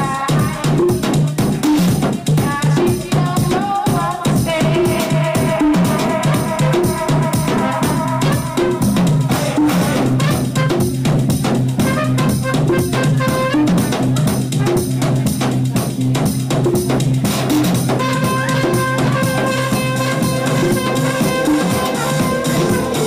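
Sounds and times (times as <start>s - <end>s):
house music with driving beat: 0.0s - 23.0s.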